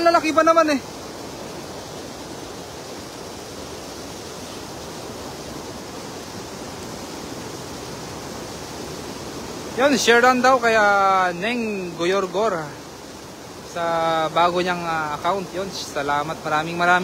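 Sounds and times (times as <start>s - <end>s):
river flowing over stones: 0.0s - 17.0s.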